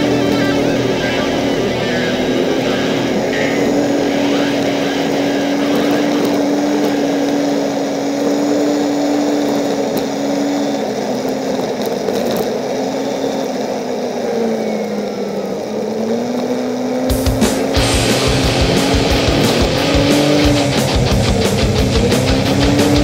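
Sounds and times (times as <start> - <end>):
small vehicle engine running: 0.0 - 23.0.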